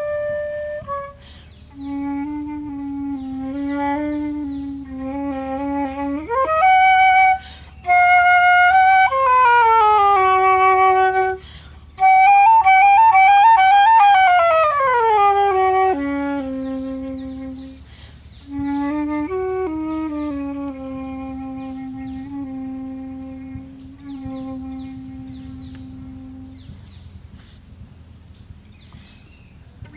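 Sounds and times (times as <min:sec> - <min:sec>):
solo flute melody: 0:00.0 - 0:27.1.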